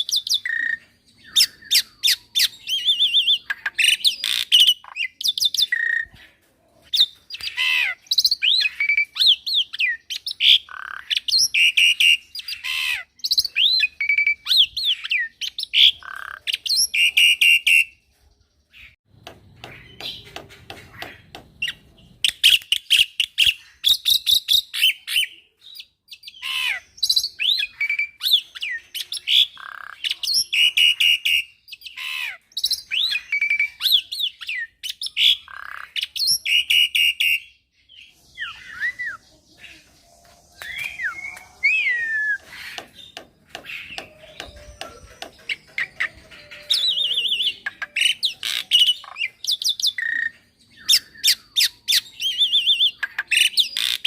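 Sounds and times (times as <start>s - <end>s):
myna bird singing: 0.0s - 54.0s.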